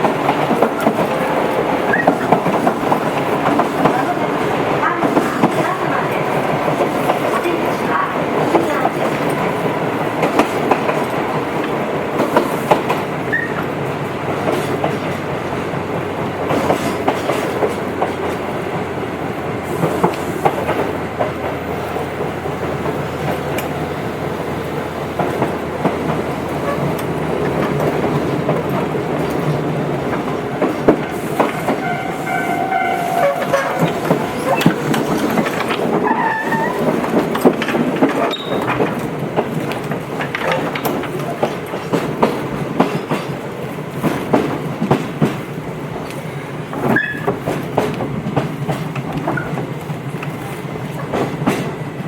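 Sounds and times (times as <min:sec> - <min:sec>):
wheels clicking over rail joints: 0:00.0 - 0:52.0.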